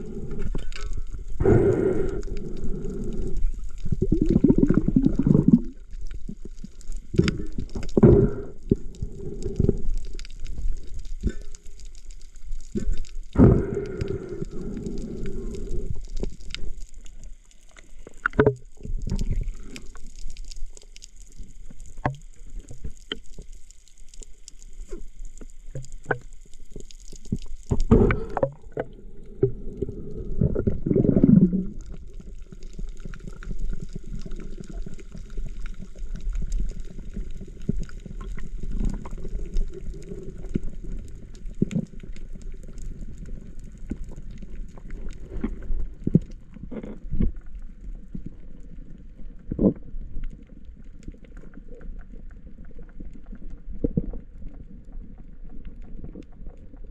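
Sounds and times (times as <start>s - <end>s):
gurgle of bubbles: 0.0s - 56.9s
muffled underwater rumble: 0.0s - 56.9s.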